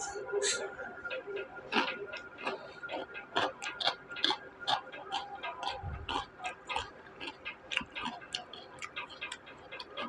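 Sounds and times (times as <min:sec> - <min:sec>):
crunchy chewing: 0:01.1 - 0:10.0.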